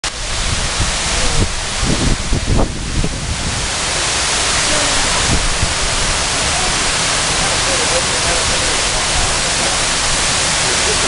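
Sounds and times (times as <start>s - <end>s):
water rushing down fountain wall: 0.0s - 11.0s.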